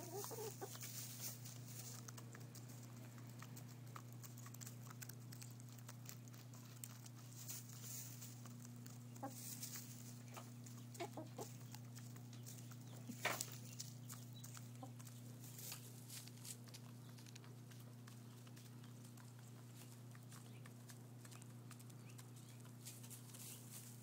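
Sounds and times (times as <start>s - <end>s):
hen clucking: 0.0s - 24.0s
hens pecking in straw: 0.0s - 24.0s.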